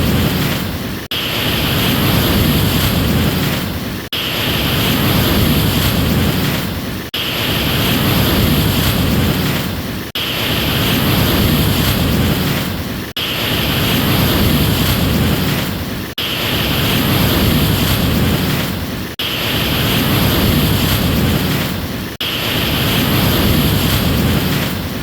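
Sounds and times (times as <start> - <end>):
ocean surf rushing: 0.0 - 25.0.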